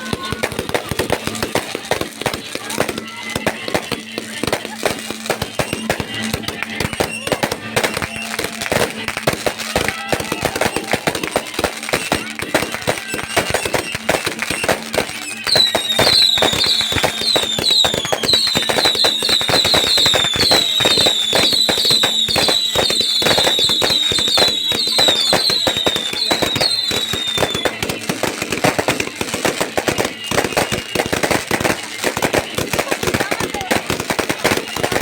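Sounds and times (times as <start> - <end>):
falling whistles of fireworks: 0.0 - 35.0
fireworks popping and banging: 0.0 - 35.0.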